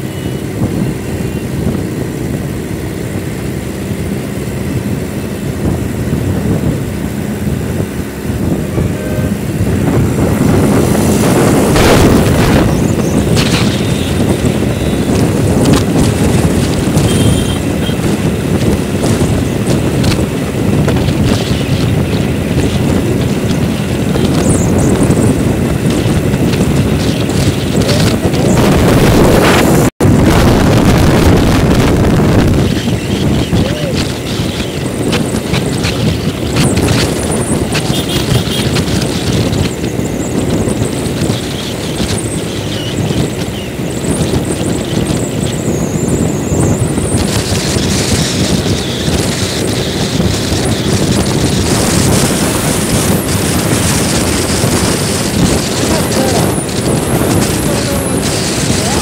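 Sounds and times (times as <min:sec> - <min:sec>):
road and traffic noise: 0:00.0 - 0:59.0
vehicle driving rumble: 0:00.0 - 0:59.0
wind buffeting microphone: 0:00.0 - 0:59.0.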